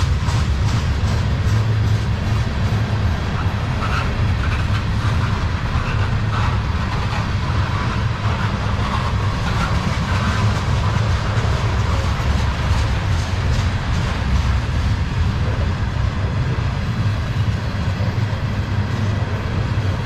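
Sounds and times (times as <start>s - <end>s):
steel wheels rumbling on rails: 0.0s - 20.0s.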